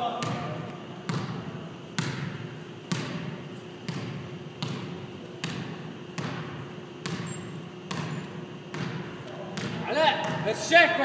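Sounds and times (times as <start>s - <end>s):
basketball bouncing on hardwood: 0.2s - 10.4s.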